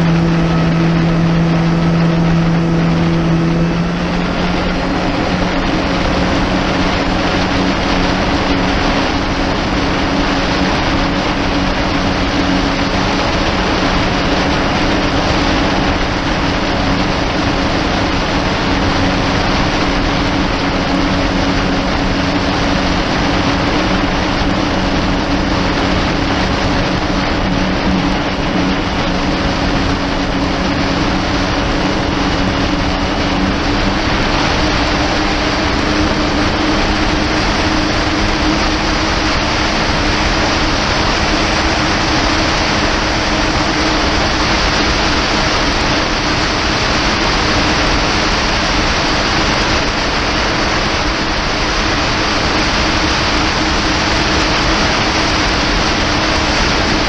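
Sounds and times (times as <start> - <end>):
jet ski engine drone: 0.0 - 57.0
rush of wind and water: 0.0 - 57.0.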